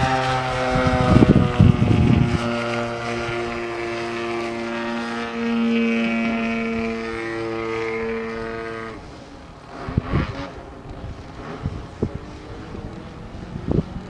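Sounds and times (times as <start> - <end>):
model plane engine and propeller: 0.0 - 14.0.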